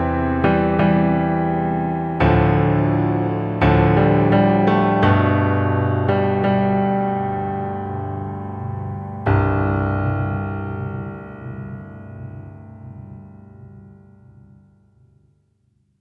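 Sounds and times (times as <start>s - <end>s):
piano chord ringing: 0.0s - 14.3s.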